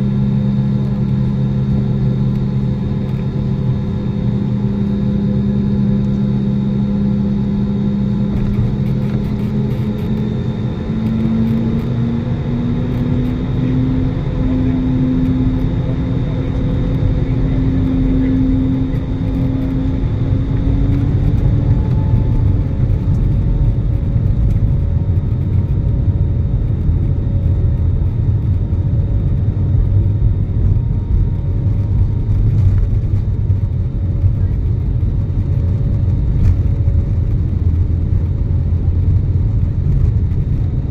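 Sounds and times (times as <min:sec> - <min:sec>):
jet engine and runway rumble: 0:00.0 - 0:40.9.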